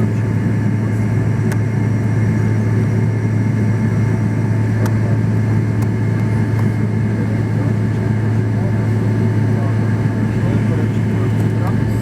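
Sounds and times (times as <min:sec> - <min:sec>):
jet engine and airflow drone: 0:00.0 - 0:12.0.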